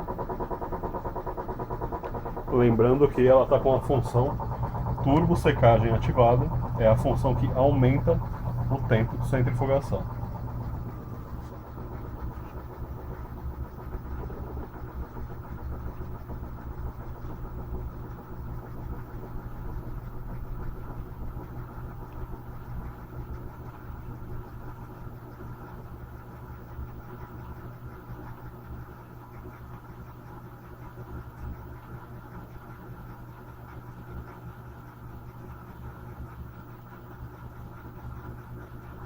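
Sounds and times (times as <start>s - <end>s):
washing machine humming: 0.0s - 39.0s.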